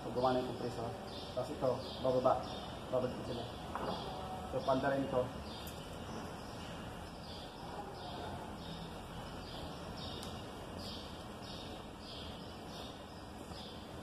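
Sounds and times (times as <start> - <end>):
small bird chirping: 0.2 - 14.0.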